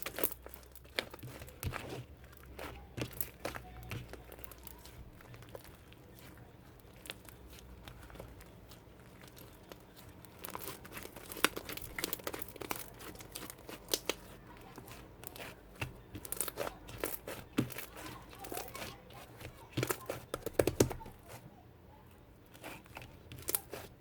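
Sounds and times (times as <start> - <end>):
paper or plastic crinkling: 0.0 - 21.4, 22.5 - 24.0.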